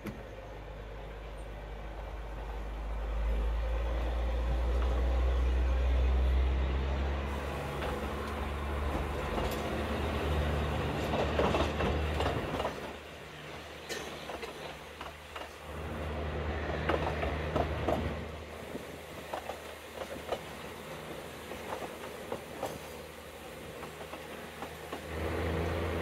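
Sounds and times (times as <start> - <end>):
diesel train engine drone: 0.0 - 26.0.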